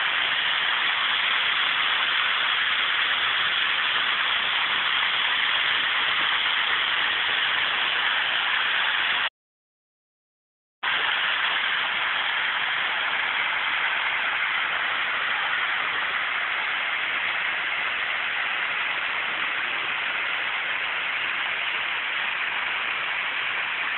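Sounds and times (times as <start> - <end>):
waterfall rushing: 0.0 - 9.3, 10.8 - 23.9.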